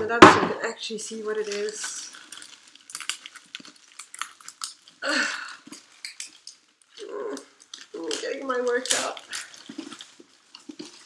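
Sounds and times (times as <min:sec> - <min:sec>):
plastic packaging crinkling: 0:00.6 - 0:11.0.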